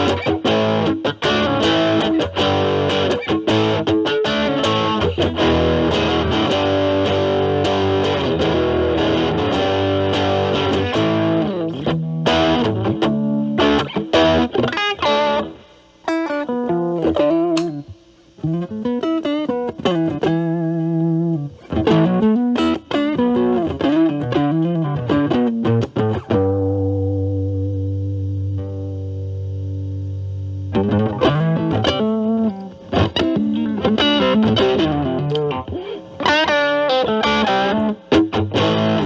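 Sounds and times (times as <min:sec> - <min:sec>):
distorted electric guitar: 0:00.0 - 0:39.0.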